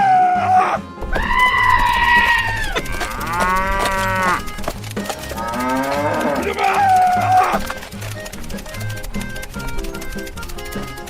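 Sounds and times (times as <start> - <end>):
drawn-out mooing: 0.4 - 11.0
background music with steady beat: 0.7 - 11.0.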